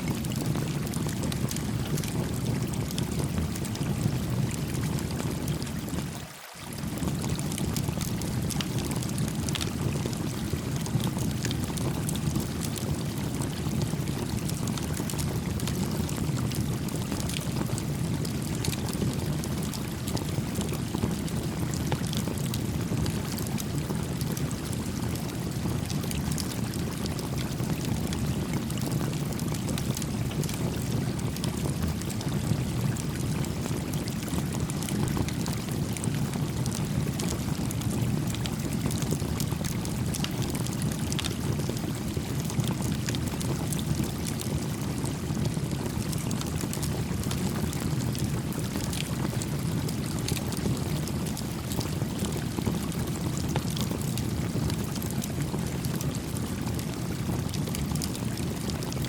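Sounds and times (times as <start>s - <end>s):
campfire crackling and popping: 0.1s - 6.0s, 6.8s - 59.0s.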